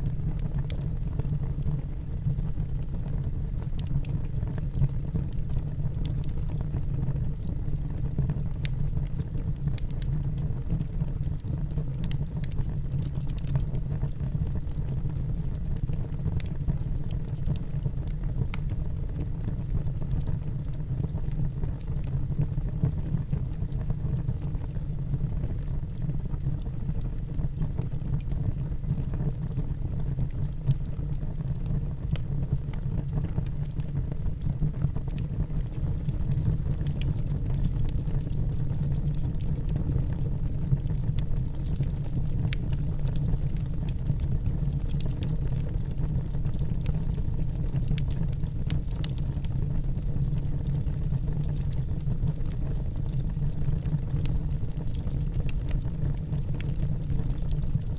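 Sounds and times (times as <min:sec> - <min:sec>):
firewood crackling and popping: 0:00.0 - 0:57.9
campfire rumbling: 0:11.1 - 0:57.9.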